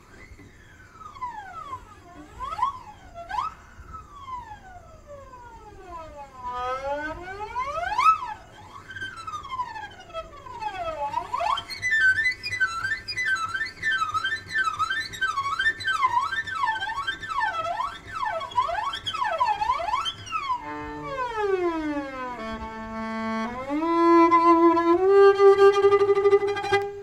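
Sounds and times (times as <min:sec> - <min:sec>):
eerie siren-like electronic tones: 0:00.2 - 0:26.6.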